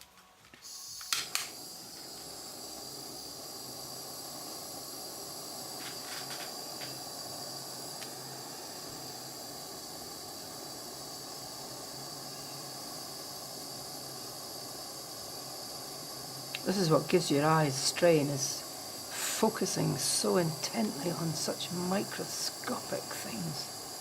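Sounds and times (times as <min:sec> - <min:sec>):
torch igniter clicks: 0:00.0 - 0:21.5
torch flame hissing: 0:00.0 - 0:24.0.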